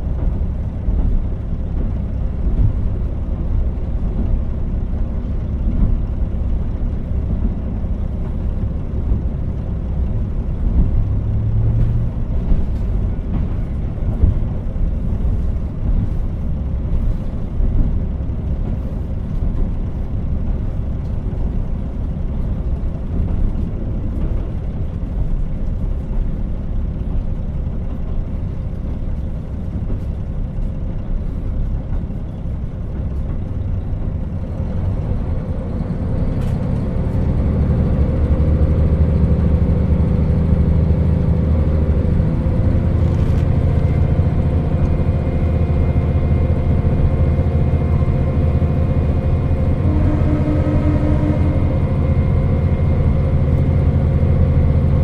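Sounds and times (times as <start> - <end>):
diesel engine drone: 0.0 - 55.0
train wheels rumbling on track: 0.0 - 55.0.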